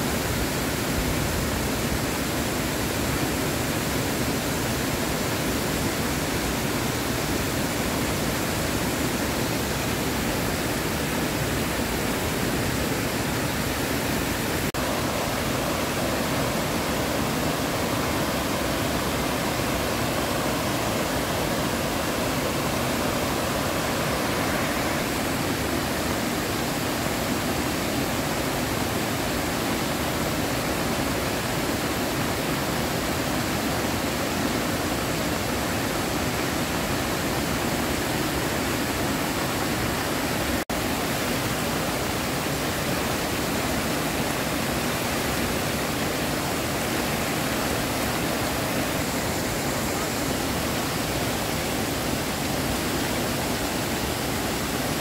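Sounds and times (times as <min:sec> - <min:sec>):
floodwater rushing: 0:00.0 - 0:55.0
heavy rain: 0:00.0 - 0:55.0.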